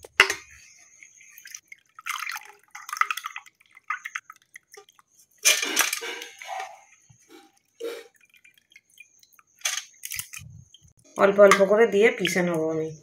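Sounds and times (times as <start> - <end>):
water dripping and splashing: 0.0 - 12.6.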